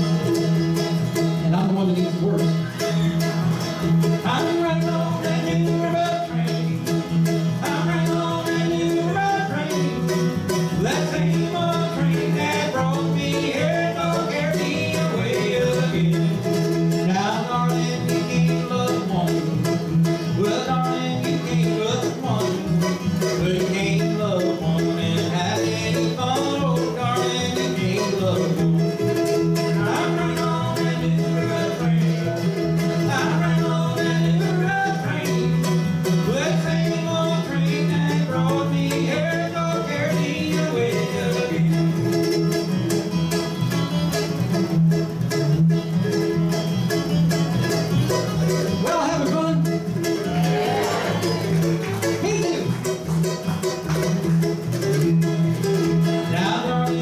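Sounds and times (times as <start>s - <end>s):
bluegrass string band playing: 0.0s - 57.0s.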